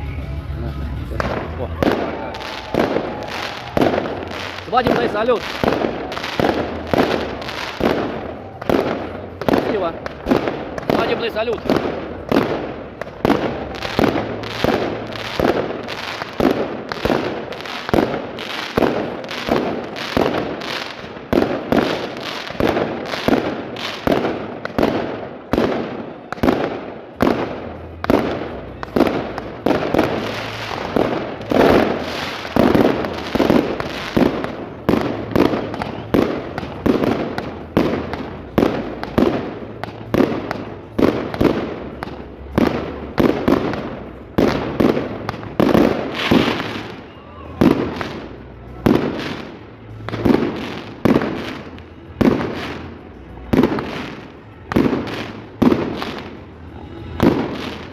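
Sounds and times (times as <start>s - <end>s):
fireworks bangs: 0.0s - 57.9s.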